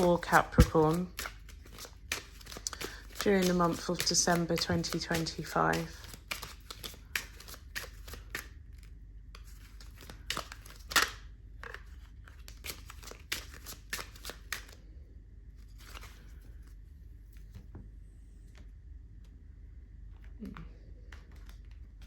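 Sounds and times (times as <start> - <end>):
cards being shuffled: 0.0 - 14.8, 15.6 - 17.8, 20.2 - 22.0.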